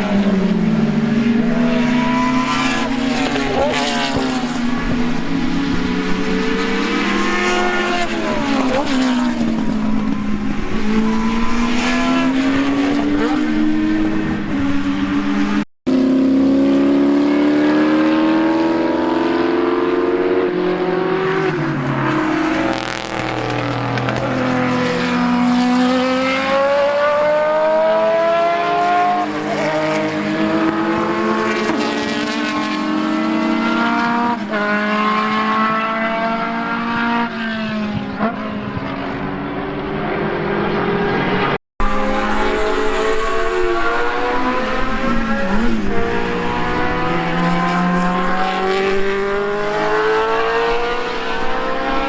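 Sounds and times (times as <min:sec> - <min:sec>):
racing car engines passing: 0:00.0 - 0:52.0.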